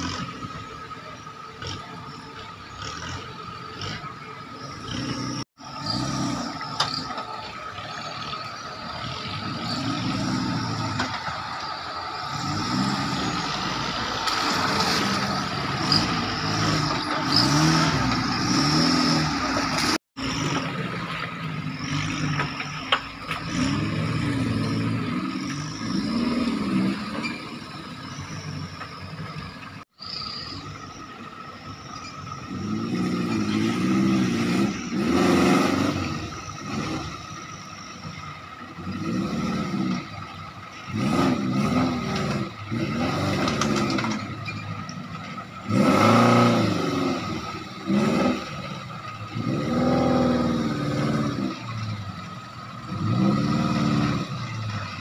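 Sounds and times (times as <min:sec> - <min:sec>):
off-road vehicle engines revving: 0:00.0 - 0:55.0.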